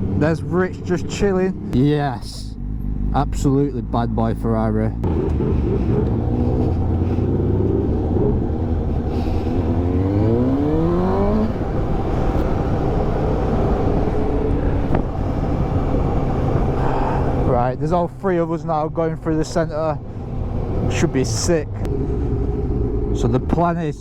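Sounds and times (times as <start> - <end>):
motorcycle engine accelerating: 0.0 - 17.8, 19.4 - 23.9.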